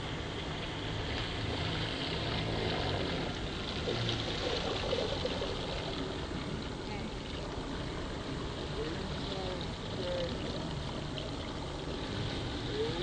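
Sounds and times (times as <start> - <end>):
low even hum: 0.0 - 13.0
water wash from boat wake: 0.0 - 13.0.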